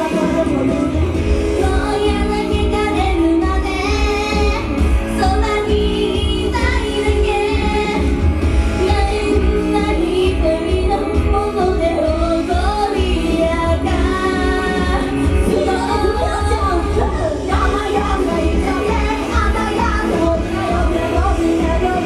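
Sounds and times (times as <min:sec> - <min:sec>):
pop backing track with bass beat: 0:00.0 - 0:22.0
high female voices singing: 0:01.5 - 0:22.0.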